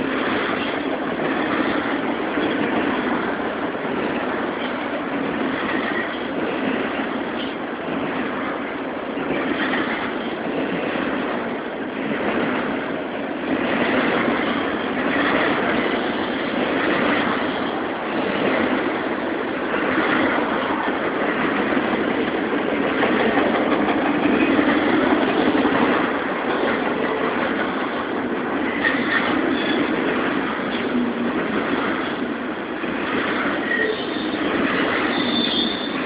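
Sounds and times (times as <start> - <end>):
freight cars rumbling and rattling: 0.0 - 36.0.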